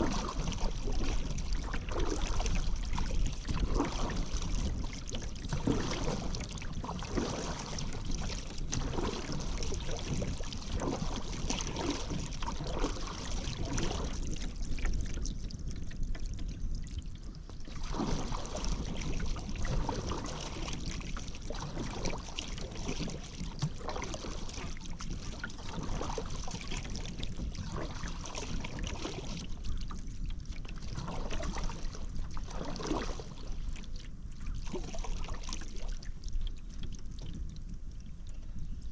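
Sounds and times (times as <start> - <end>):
paddle splashing in water: 0.0 - 37.5.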